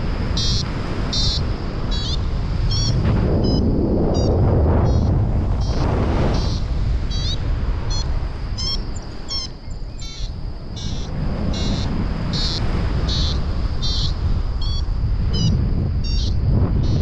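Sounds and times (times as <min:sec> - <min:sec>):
wind rushing on microphone: 0:00.0 - 0:17.0
variometer beeping: 0:00.3 - 0:17.0.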